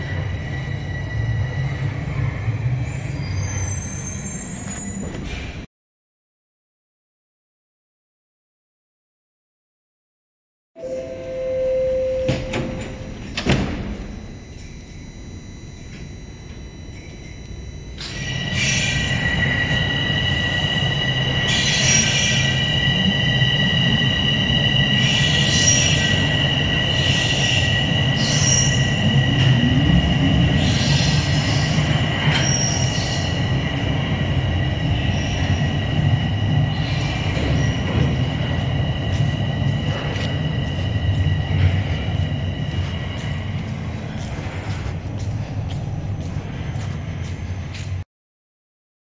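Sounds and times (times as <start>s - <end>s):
low rumble of subway train: 0.0s - 5.7s, 10.8s - 48.0s
train wheels squealing on rails: 0.0s - 5.7s, 10.8s - 48.0s.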